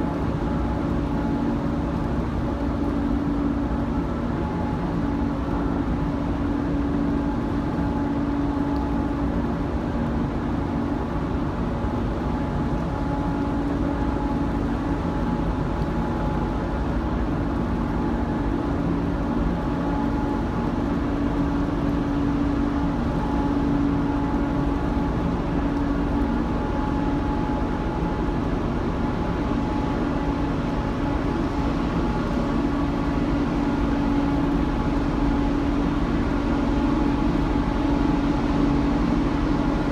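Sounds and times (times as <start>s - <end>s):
ship machinery drone: 0.0s - 39.9s.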